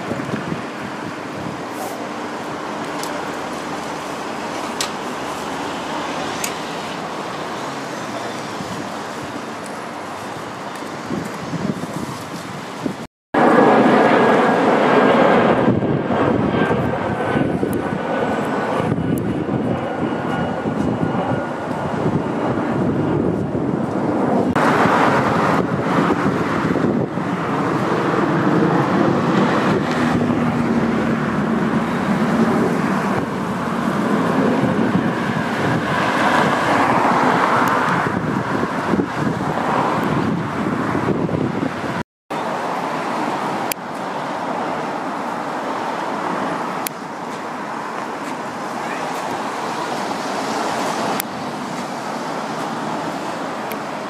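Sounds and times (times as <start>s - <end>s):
engine roar: 0.0s - 54.0s.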